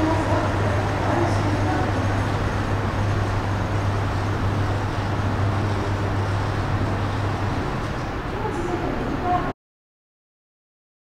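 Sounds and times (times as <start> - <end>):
low hum: 0.0 - 9.3
hall noise wash: 0.0 - 9.5.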